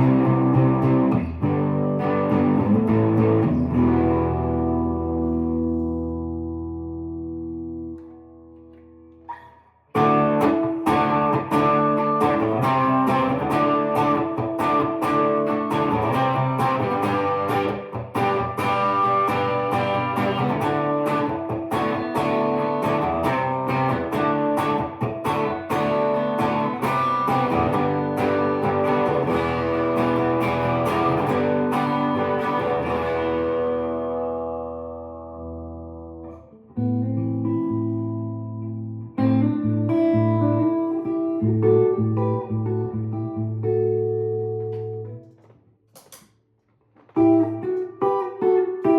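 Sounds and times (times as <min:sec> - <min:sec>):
electric guitar playing: 0:00.0 - 0:45.5, 0:47.0 - 0:48.9.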